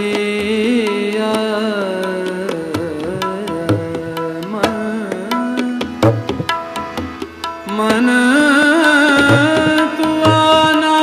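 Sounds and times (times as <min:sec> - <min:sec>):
man singing long vowel: 0:00.0 - 0:06.2, 0:07.6 - 0:11.0
harmonium: 0:00.0 - 0:11.0
tabla strokes: 0:00.0 - 0:11.0.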